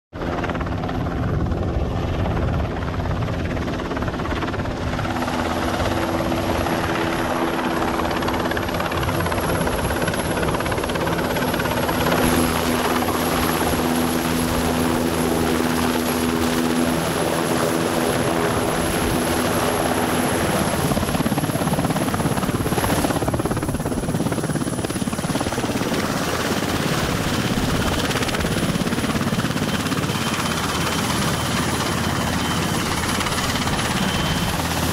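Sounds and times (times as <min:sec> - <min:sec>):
helicopter rotor and turbine: 0:00.1 - 0:34.9.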